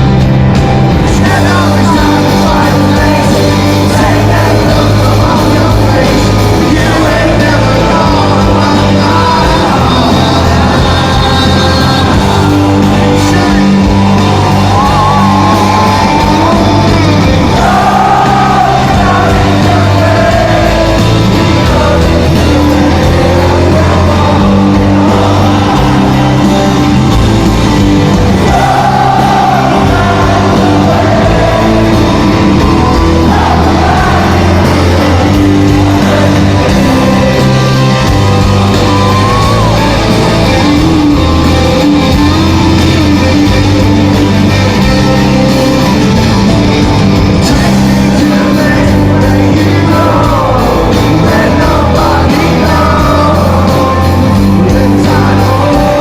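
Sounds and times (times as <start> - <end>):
crowd shouting and singing along: 0.0 - 56.0
live rock band playing: 0.0 - 56.0.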